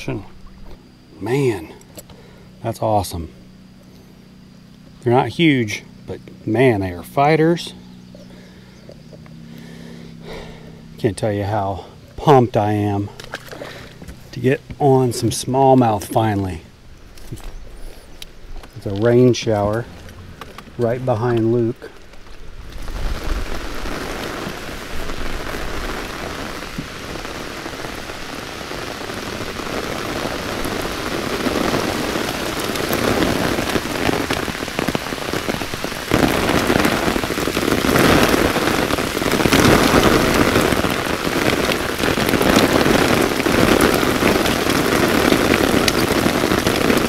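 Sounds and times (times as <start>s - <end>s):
rain on water: 0.0s - 47.0s
rain on an umbrella: 8.3s - 47.0s.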